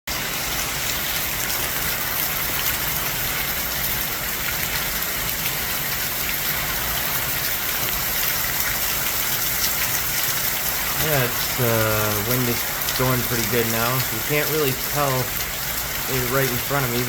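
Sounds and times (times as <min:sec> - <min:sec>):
heavy rain and wind: 0:00.1 - 0:17.0.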